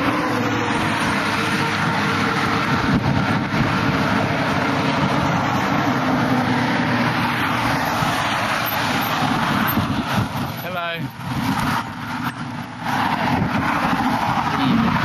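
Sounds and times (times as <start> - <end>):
truck engine drone: 0.0 - 15.0
tyres on highway: 0.0 - 15.0.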